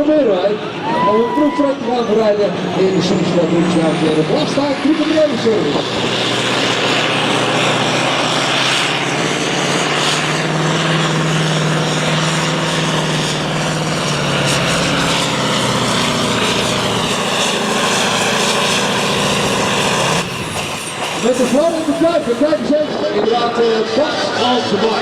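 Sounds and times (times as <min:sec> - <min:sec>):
truck engine running under load: 0:02.3 - 0:22.6.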